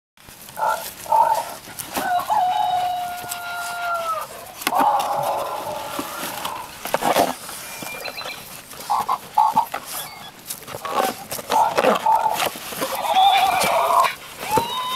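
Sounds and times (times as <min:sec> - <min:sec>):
dogs tearing cardboard: 0:00.2 - 0:07.6, 0:08.5 - 0:14.9
animal calling: 0:00.6 - 0:14.9.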